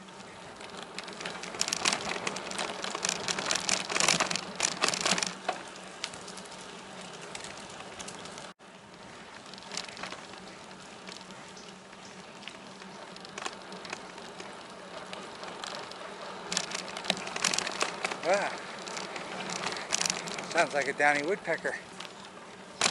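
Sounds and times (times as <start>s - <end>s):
bicycle tyres hissing on pavement: 0.0s - 22.9s.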